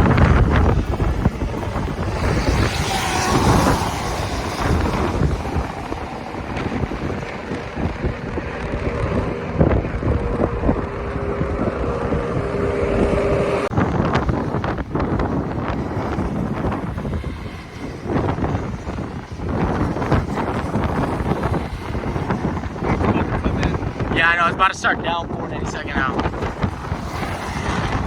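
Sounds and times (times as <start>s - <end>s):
steady tone: 0.0s - 24.8s
moving vehicle noise: 0.0s - 28.0s
wind buffeting microphone: 0.0s - 28.0s.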